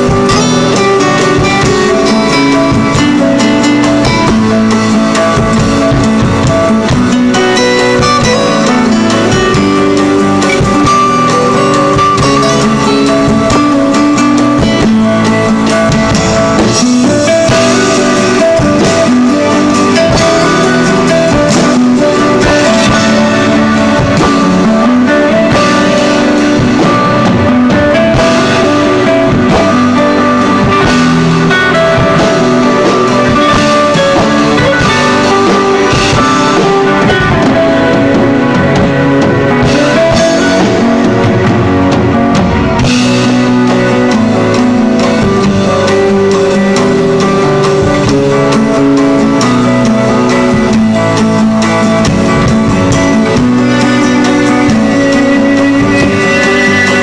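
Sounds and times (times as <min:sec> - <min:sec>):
drum kit played with sticks: 0:00.0 - 0:57.0
smooth jazz guitar track: 0:00.0 - 0:57.0.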